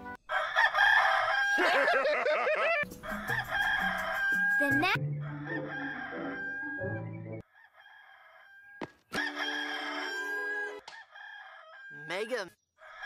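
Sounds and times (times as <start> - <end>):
rooster crowing: 0.3 - 12.2, 12.8 - 13.0.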